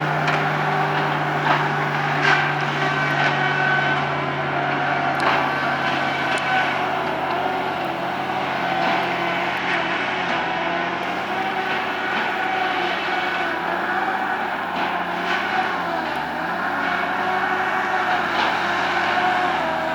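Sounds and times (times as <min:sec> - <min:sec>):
engine running steadily: 0:00.0 - 0:19.9.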